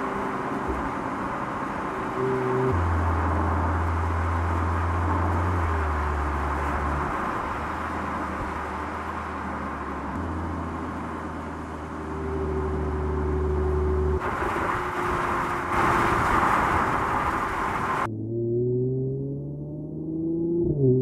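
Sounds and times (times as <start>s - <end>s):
car driving noise: 0.0s - 21.0s
low engine drone: 0.0s - 21.0s.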